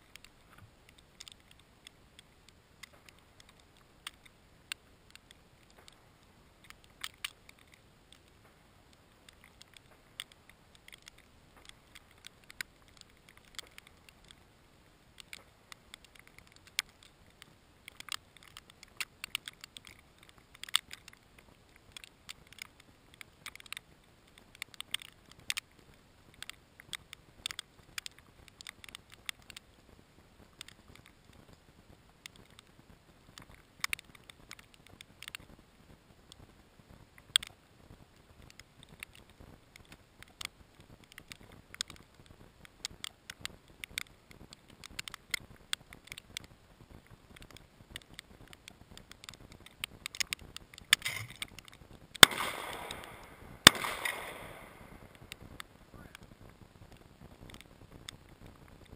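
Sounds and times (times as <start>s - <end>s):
snow ticking on camera housing: 0.0s - 58.9s.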